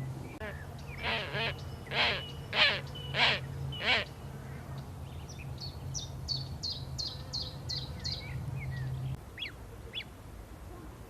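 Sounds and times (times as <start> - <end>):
songbird singing: 0.0 - 10.2.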